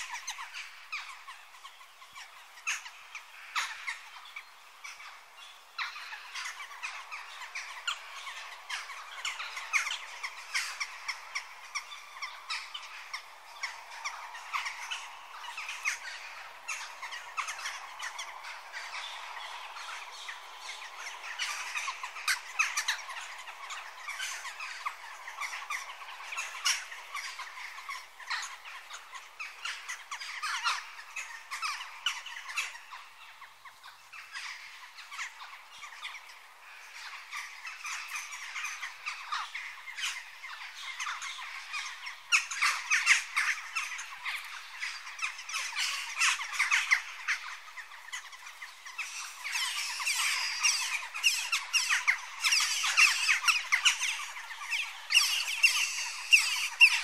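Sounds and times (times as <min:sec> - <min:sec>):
jackdaws calling: 0:00.0 - 0:57.0.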